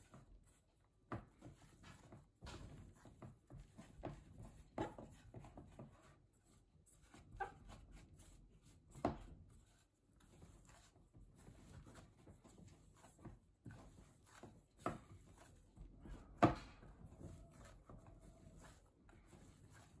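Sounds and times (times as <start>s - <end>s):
hands kneading dough in bowl: 0.0s - 20.0s.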